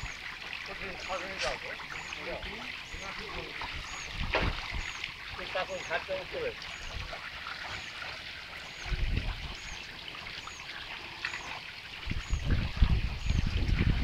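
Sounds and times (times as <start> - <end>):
pond water trickling and lapping: 0.0 - 14.0.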